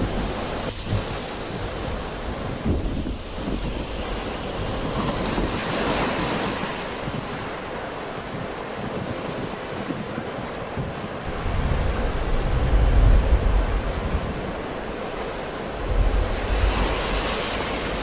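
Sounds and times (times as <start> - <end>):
sea waves breaking on shore: 0.0 - 18.0
wind buffeting microphone: 0.0 - 18.0.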